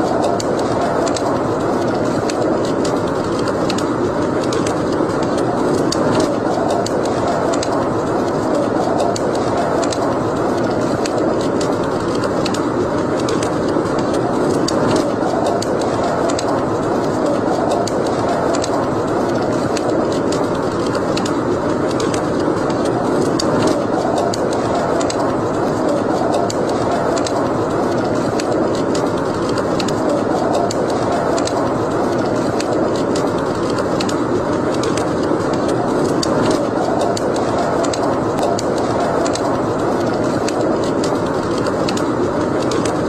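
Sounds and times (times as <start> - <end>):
steady rushing noise: 0.0 - 43.0
wood fire crackling and popping: 0.0 - 43.0.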